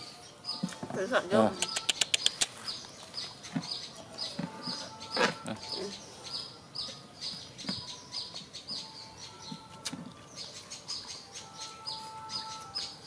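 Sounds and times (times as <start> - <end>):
small bird chirping: 1.5 - 13.0.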